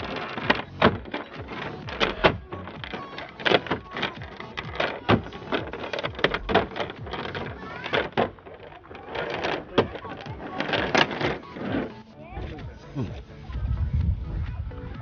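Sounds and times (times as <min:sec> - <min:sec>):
irregular knocks and clatters: 0:00.0 - 0:12.0.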